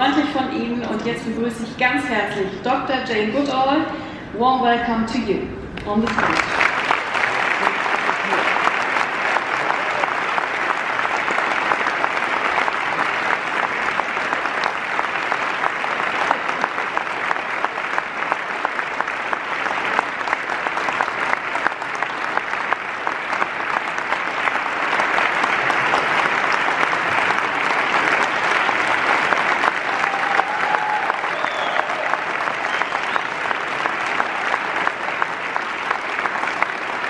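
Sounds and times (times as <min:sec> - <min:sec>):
audience applauding: 0:05.8 - 0:37.0.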